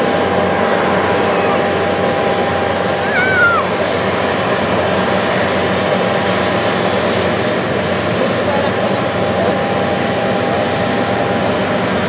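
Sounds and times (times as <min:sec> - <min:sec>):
jet engine taxiing: 0:00.0 - 0:12.0.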